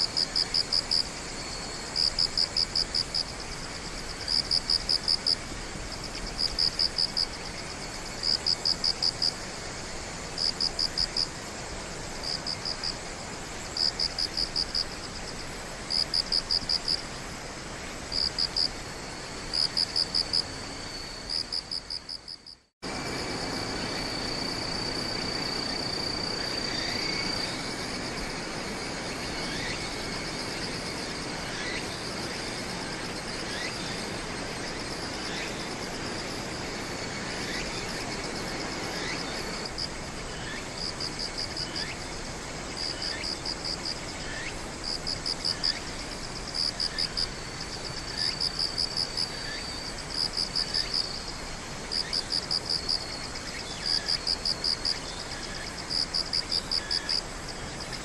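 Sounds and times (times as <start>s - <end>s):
insect chorus high trill: 0.0s - 58.0s
night insects chirping in pulses: 0.0s - 58.0s.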